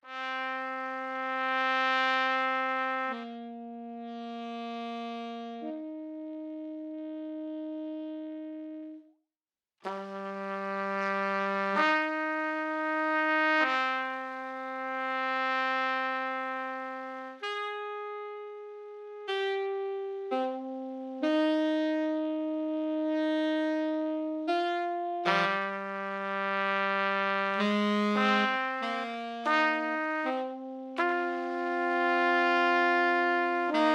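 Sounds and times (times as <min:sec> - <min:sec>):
slow brass music: 0:00.0 - 0:09.1, 0:09.8 - 0:33.9.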